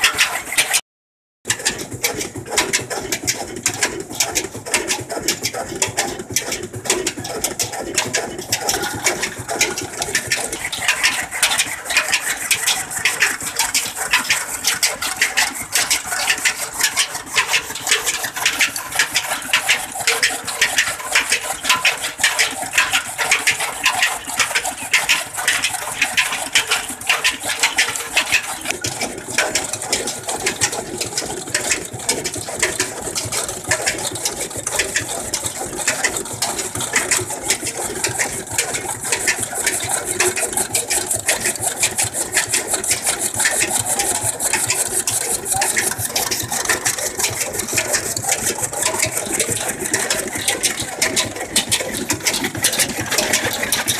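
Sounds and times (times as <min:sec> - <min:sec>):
chaff cutter blades clattering: 0:01.5 - 0:53.9.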